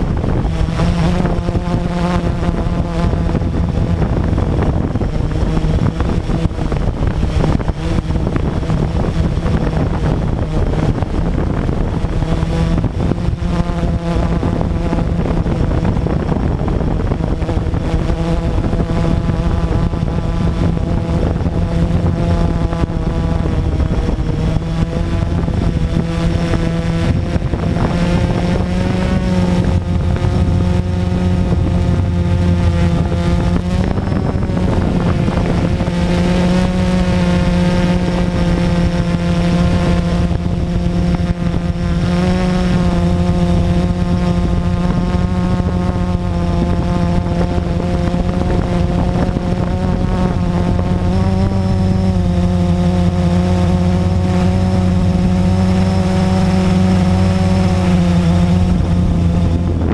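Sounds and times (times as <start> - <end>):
drone propellers buzzing: 0.0 - 59.9.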